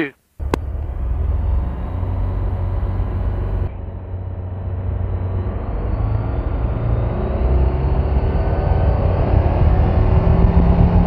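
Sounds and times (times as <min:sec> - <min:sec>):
light aircraft engine revving: 0:00.4 - 0:11.0.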